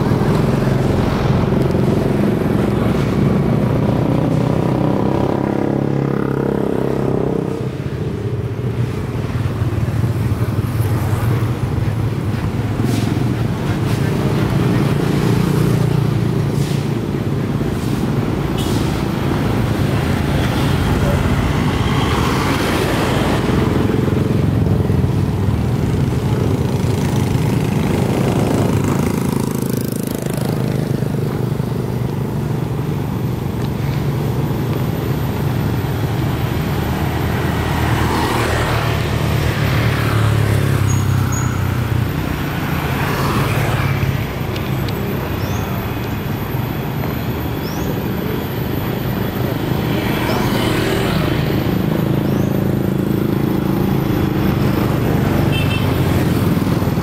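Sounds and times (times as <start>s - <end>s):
motorcycles and scooters rumbling: 0.0s - 57.0s
motorcycles passing close by: 0.0s - 57.0s.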